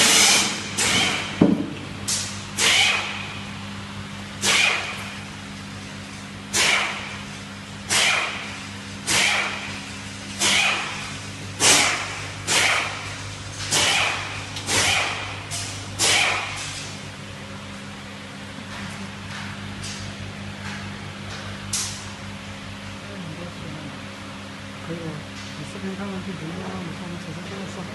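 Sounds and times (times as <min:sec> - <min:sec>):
steady machine hum: 0:00.0 - 0:27.9.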